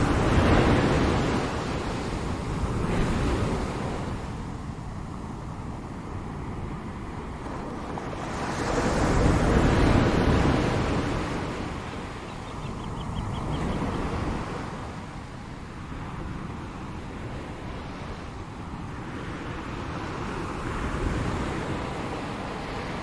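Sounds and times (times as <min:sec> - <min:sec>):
ocean waves crashing: 0:00.0 - 0:23.0
surf washing: 0:00.0 - 0:23.0.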